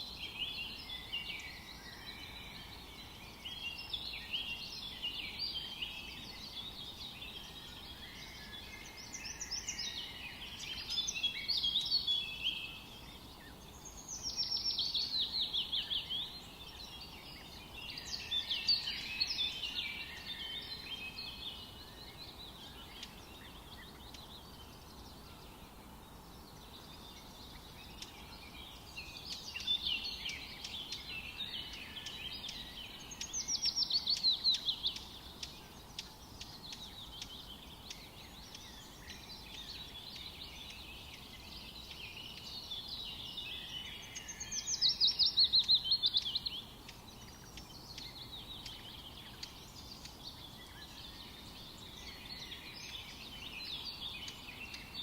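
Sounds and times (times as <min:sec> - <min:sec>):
songbirds chattering: 0:00.0 - 0:55.0
steady hiss: 0:00.0 - 0:55.0.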